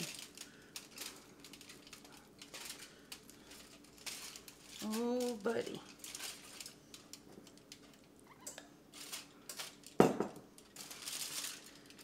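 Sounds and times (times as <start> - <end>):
foil crinkling: 0.0 - 12.0.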